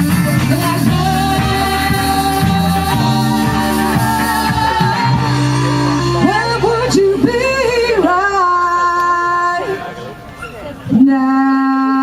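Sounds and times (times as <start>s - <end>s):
person singing: 0.0s - 9.9s
live band chords: 0.0s - 10.4s.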